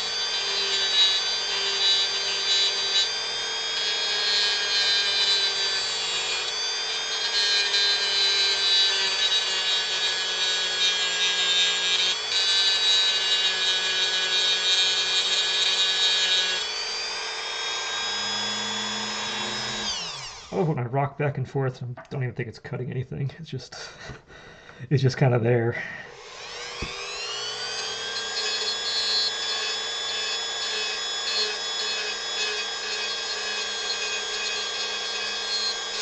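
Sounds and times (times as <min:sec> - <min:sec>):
rotary tool grinding wood: 0:00.0 - 0:20.6, 0:26.1 - 0:36.0.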